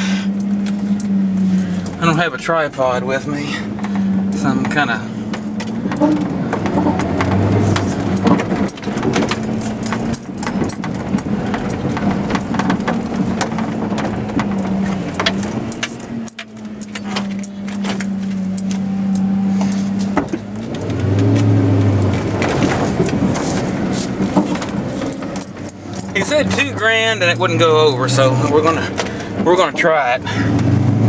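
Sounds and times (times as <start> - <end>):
engine drone inside cab: 0.0 - 31.0
light rattling of keys: 3.8 - 29.7.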